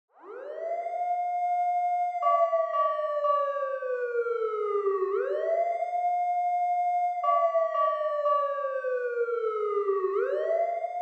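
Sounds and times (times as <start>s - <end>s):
siren wailing: 0.2s - 11.0s.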